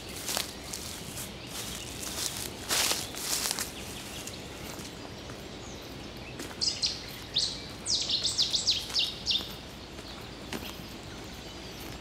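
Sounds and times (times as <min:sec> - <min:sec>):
outdoor background hiss: 0:00.0 - 0:12.0
songbird singing: 0:00.0 - 0:12.0.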